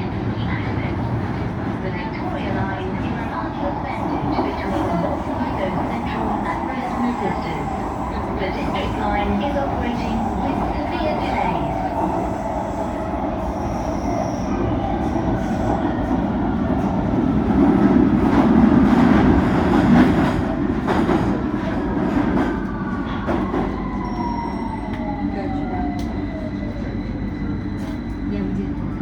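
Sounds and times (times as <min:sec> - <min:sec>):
underground train rumbling: 0:00.0 - 0:29.0.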